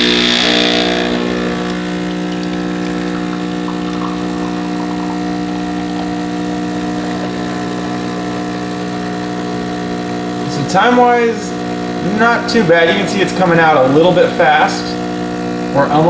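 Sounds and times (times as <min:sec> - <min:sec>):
espresso machine pump buzzing: 0:00.0 - 0:16.0.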